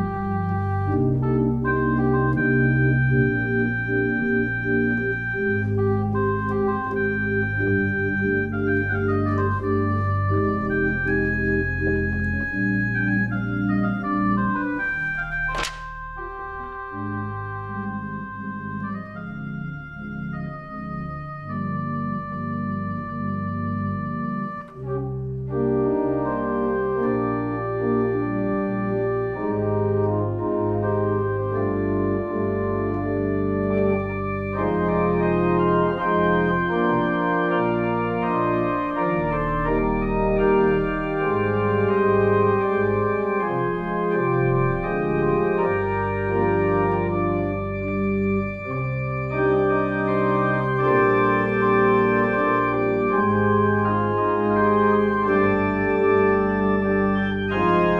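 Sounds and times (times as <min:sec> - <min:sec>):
organ playing held chords: 0:00.0 - 0:57.9.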